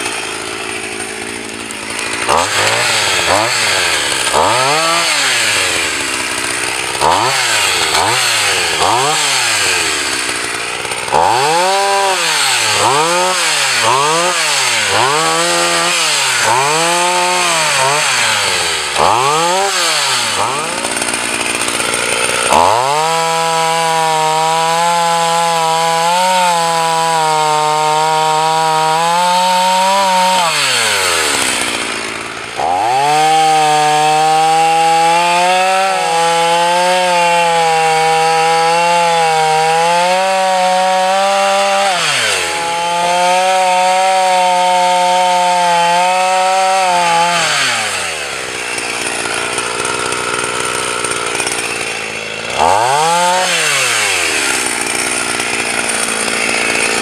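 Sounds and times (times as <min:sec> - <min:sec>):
chainsaw cutting a log: 0:00.0 - 0:57.0.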